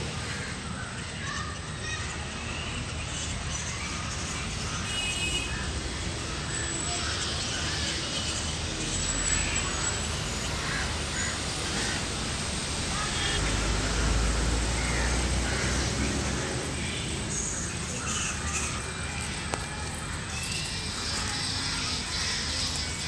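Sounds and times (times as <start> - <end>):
birds calling: 0.0 - 23.0
faint voices: 0.0 - 23.0
outdoor background noise: 0.0 - 23.0.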